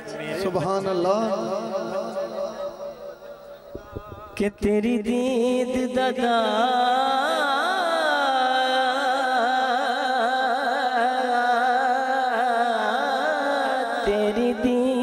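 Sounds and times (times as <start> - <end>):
man singing into microphone: 0.0 - 15.0.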